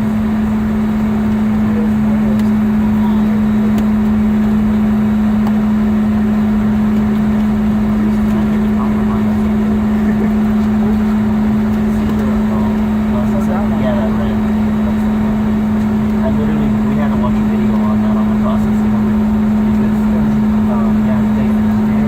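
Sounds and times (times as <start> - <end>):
aircraft cabin hum: 0.0 - 22.0
jet engines rushing: 0.0 - 22.0.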